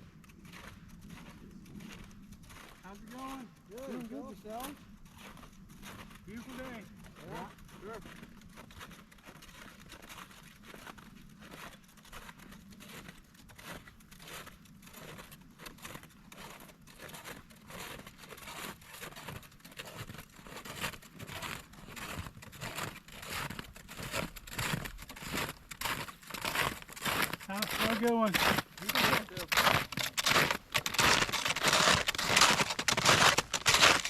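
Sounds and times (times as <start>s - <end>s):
footsteps crunching in snow: 0.4s - 34.0s.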